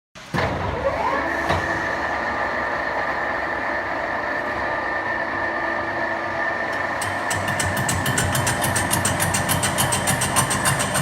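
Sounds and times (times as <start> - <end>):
machine tool running with whine: 1.0 - 11.0.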